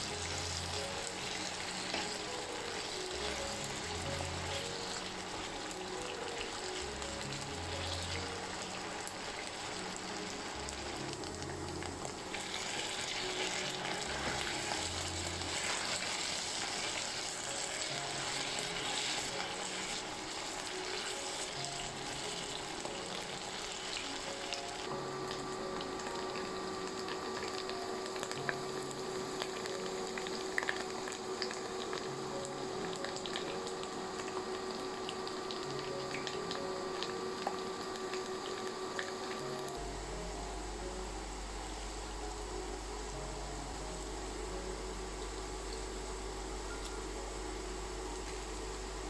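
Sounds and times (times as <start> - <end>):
food sizzling in hot oil: 0.0 - 49.0
soft background music: 0.0 - 49.0.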